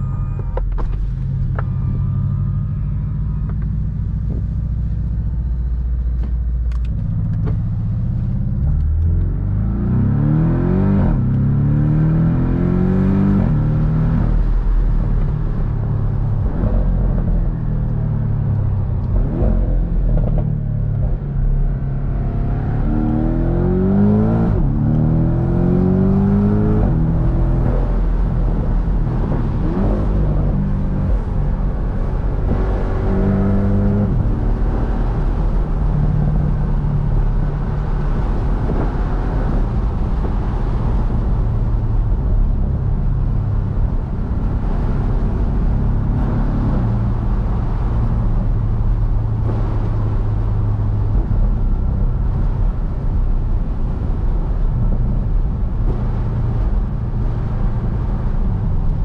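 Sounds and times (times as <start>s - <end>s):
car engine running: 0.0s - 11.7s, 12.5s - 59.0s
road and wind noise: 0.0s - 59.0s.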